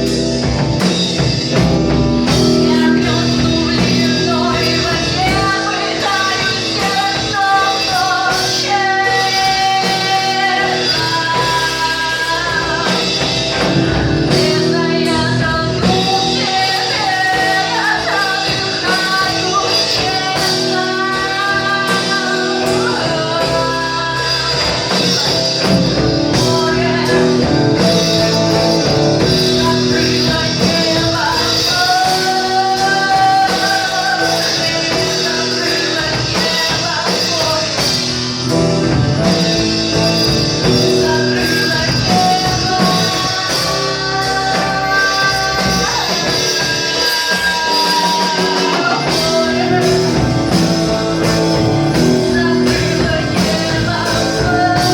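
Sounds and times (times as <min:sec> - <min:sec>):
instrumental backing: 0:00.0 - 0:54.9
singing voice: 0:00.0 - 0:54.9.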